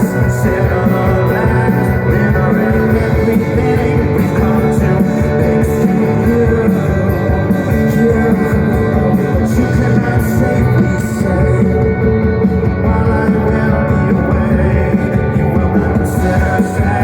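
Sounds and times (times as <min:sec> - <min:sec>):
drums: 0:00.0 - 0:17.0
guitars: 0:00.0 - 0:17.0
person singing: 0:00.0 - 0:17.0.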